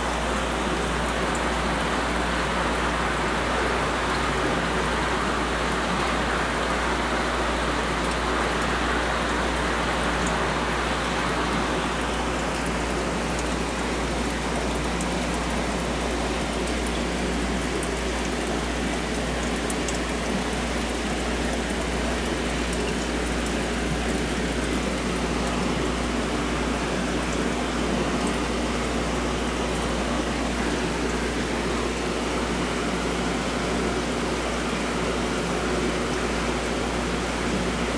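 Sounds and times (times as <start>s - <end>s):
water splashing and bubbling: 0.0s - 37.9s.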